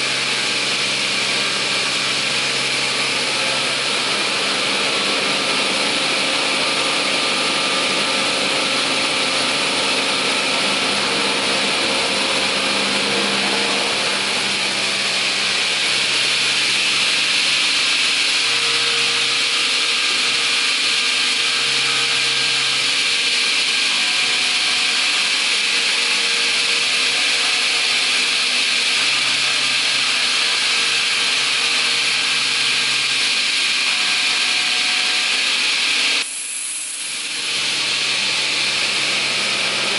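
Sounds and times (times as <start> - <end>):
saw motor whirring: 0.0 - 39.9.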